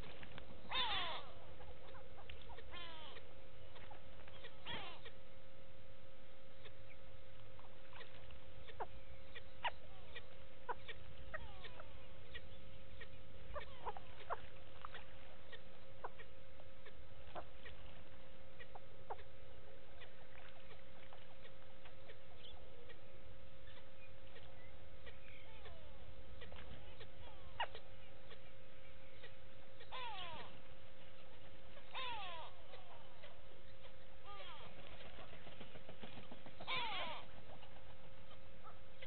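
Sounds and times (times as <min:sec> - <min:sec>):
birds chirping and squeaking: 0:00.0 - 0:05.2, 0:07.6 - 0:19.4, 0:23.6 - 0:39.0
faint steady hum: 0:00.0 - 0:39.0.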